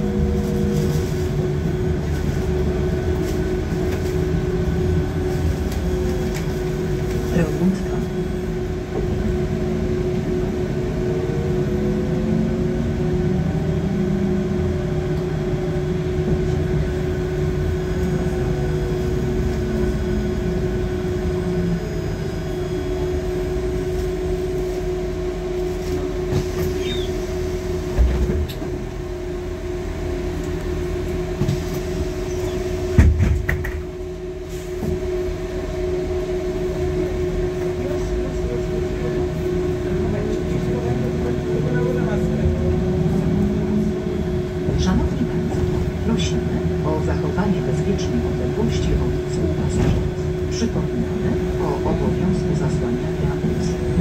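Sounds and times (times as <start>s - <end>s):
bus engine whine: 0.0s - 54.0s
low road rumble: 0.0s - 54.0s.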